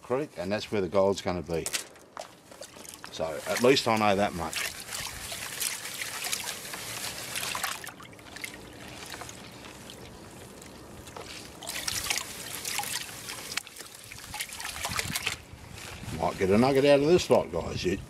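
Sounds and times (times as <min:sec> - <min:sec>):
water sloshing in a pan: 0:02.1 - 0:16.6.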